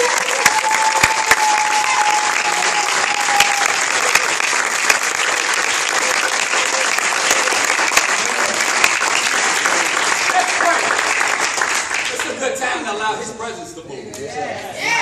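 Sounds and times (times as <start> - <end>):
crowd applauding: 0.0 - 12.5.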